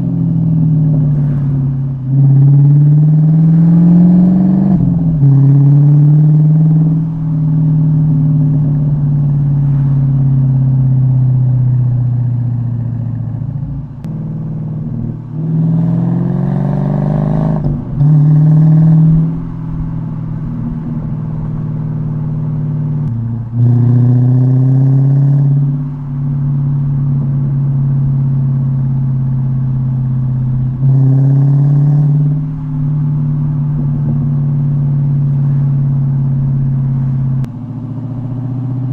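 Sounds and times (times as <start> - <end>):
car engine through loud exhaust: 0.0 - 38.9.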